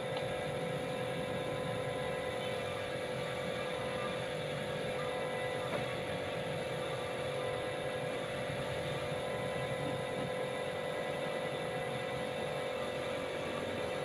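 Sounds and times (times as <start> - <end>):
air compressor motor hum: 0.0 - 14.0.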